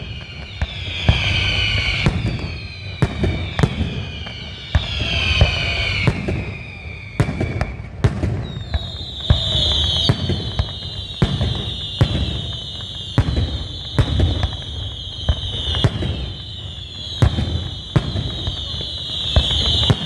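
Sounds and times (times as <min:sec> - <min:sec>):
falling high whistle: 0:00.0 - 0:20.0
fireworks bangs and booms: 0:00.0 - 0:20.0.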